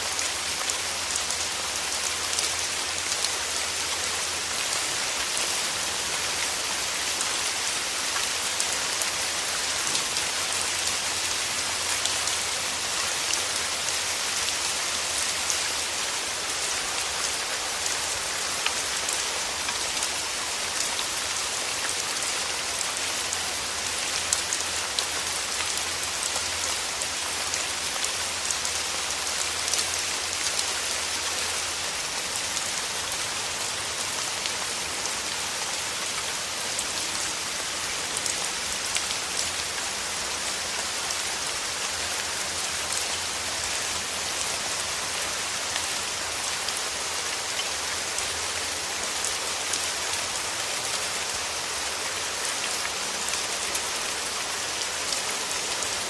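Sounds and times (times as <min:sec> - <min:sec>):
rain pattering on a surface: 0:00.0 - 0:56.0.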